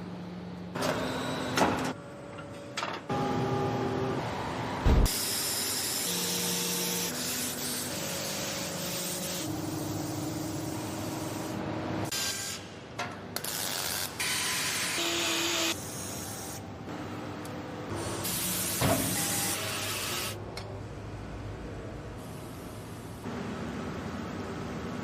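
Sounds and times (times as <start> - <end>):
mechanical noise with hums: 0.0 - 25.0.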